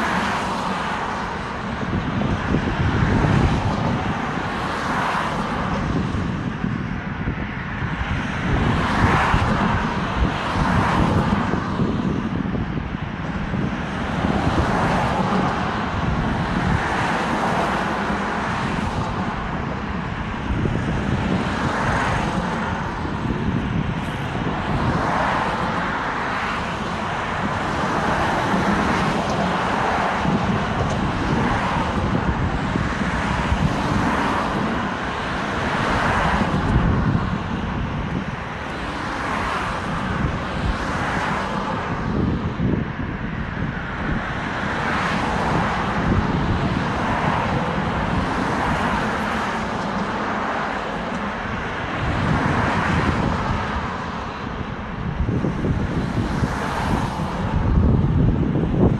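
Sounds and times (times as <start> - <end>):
cars passing: 0.0 - 58.9
tyre and engine noise: 0.0 - 58.9.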